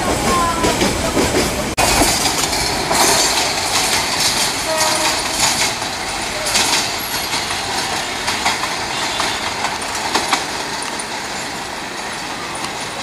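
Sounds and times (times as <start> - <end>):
passengers calling out: 0.0 - 13.0
train rumble and wheel clatter: 0.0 - 13.0.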